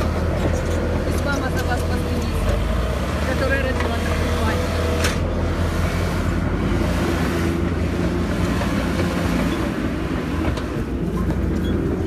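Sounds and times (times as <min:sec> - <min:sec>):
bulldozer diesel engine rumbling: 0:00.0 - 0:12.0.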